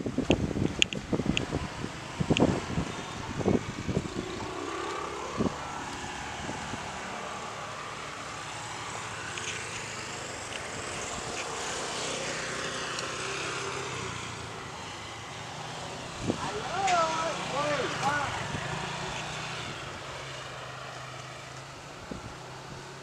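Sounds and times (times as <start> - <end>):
vehicle rumble and hiss: 0.0 - 23.0.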